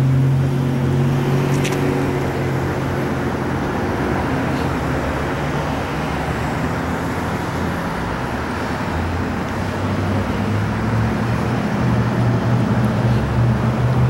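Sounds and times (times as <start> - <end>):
road traffic noise: 0.0 - 14.0
vehicle engine humming: 0.0 - 14.0.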